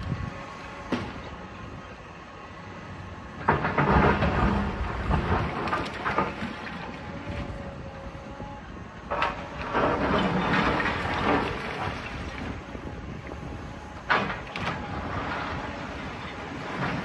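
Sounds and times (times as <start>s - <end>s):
low machine drone: 0.0s - 17.0s.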